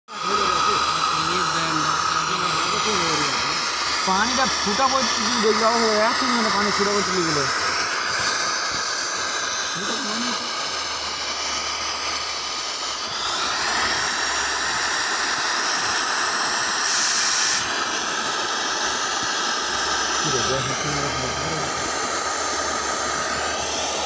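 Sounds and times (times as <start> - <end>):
machinery hissing: 0.0 - 24.0.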